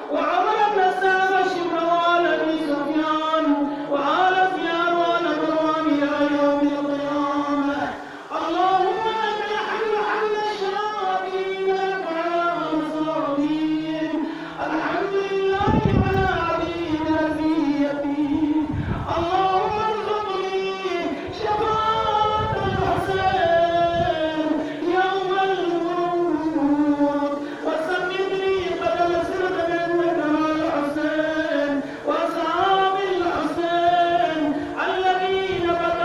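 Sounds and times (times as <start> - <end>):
men chanting a lament: 0.0 - 36.0.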